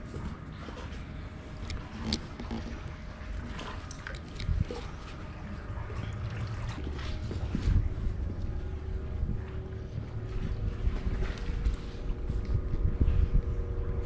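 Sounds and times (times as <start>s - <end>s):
small splashes: 0.0s - 12.1s
low steady rumble: 0.0s - 14.0s
water lapping against a wall: 0.0s - 14.0s.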